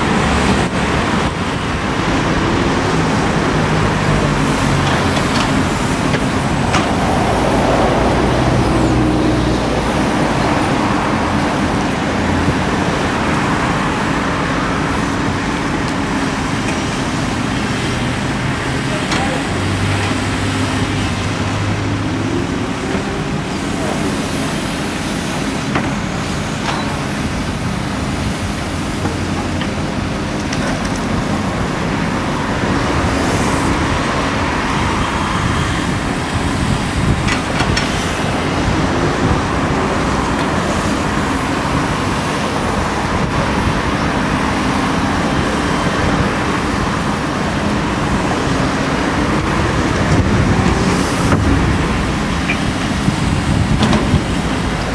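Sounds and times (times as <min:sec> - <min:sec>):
excavator diesel engine under load: 0:00.0 - 0:54.9
road traffic noise: 0:00.0 - 0:54.9.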